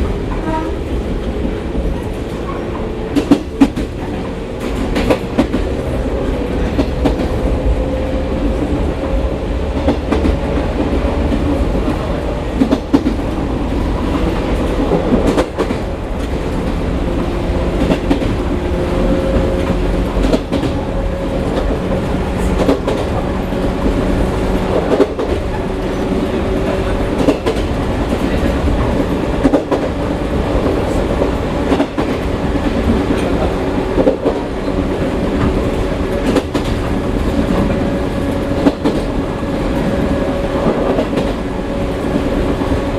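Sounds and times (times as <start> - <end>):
wheels clacking over rail joints: 0.0 - 7.8, 8.4 - 42.9
train low rumble: 0.0 - 42.9.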